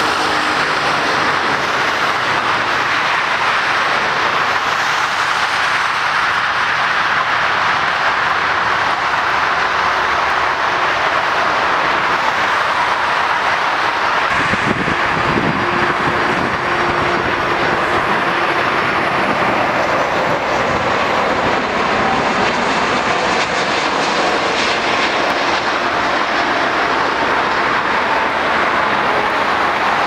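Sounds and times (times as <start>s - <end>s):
jet engine roaring: 0.0s - 30.0s.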